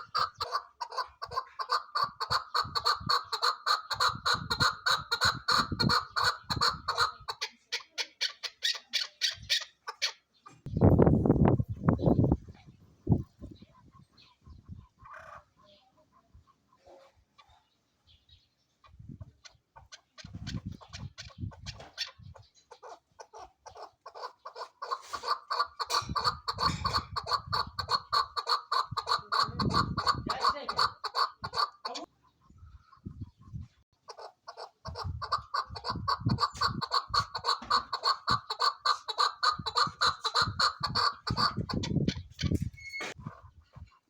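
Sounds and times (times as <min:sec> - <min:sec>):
partridge rapid clucking calls: 0:00.0 - 0:18.2, 0:18.8 - 0:44.0.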